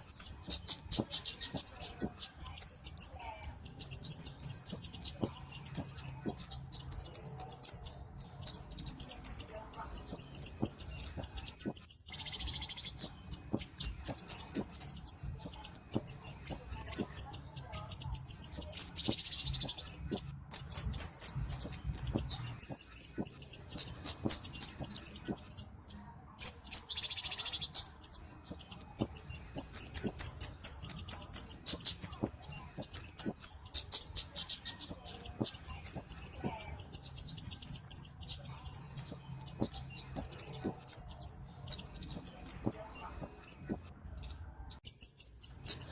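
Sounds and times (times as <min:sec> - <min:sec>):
bird high sharp chips: 0:00.0 - 0:45.9.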